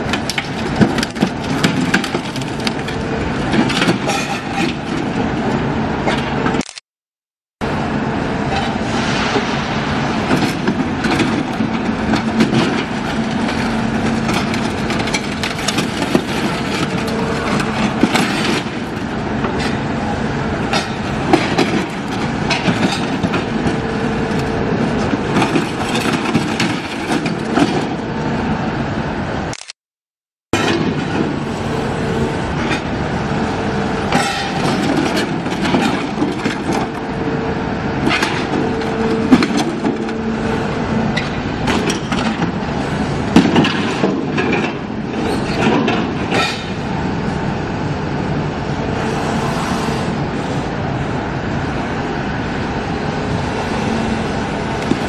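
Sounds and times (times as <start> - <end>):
machinery engine drone: 0.0 - 6.8, 7.6 - 29.7, 30.6 - 55.0.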